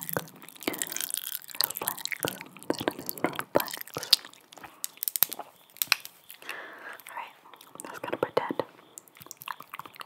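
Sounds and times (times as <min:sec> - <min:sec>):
wet mouth clicks and lip smacks: 0:00.0 - 0:10.0.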